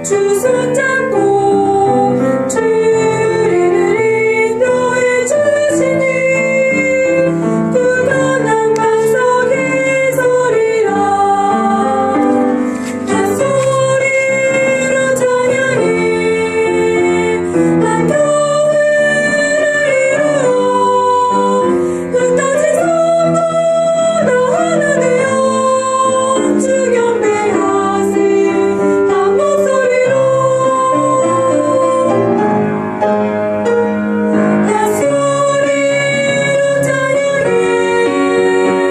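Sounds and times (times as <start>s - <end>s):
soprano singing: 0.0s - 32.7s, 34.3s - 38.9s
piano accompaniment: 0.0s - 38.9s.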